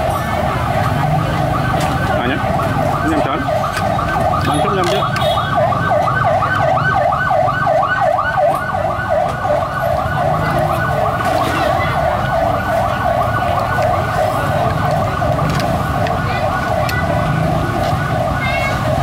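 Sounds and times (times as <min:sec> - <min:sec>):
yelp siren wailing: 0:00.0 - 0:19.0.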